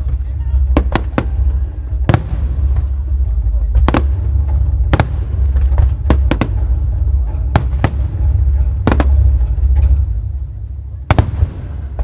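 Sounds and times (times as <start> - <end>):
deep rumble of fireworks: 0.0 - 12.0
fireworks bursting with sharp bangs: 0.0 - 12.0.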